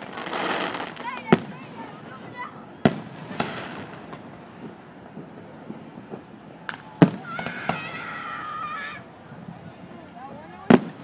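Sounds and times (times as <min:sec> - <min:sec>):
fireworks popping and banging: 0:00.0 - 0:08.5, 0:09.3 - 0:11.0.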